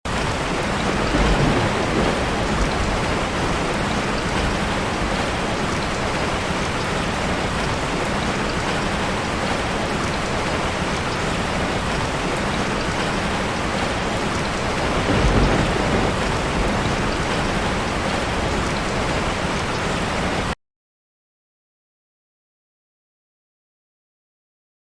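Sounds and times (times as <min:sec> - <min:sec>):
water rushing: 0:00.1 - 0:20.6.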